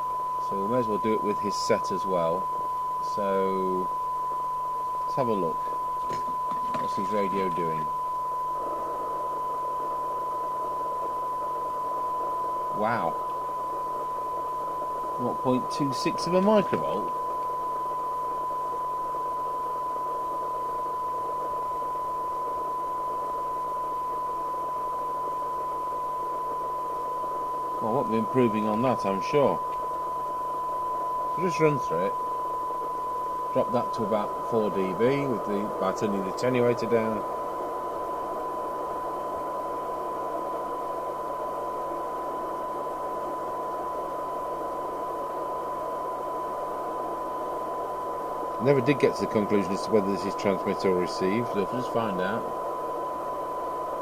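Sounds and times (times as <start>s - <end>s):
radio hiss: 0.0s - 54.0s
steady test tone: 0.0s - 54.0s.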